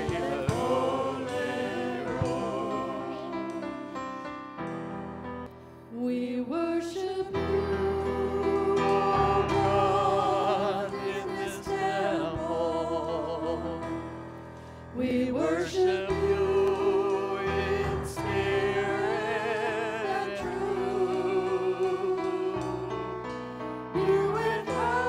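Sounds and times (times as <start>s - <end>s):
singing with long held notes: 0.0s - 4.1s, 5.9s - 14.1s, 14.9s - 23.4s, 24.0s - 25.0s.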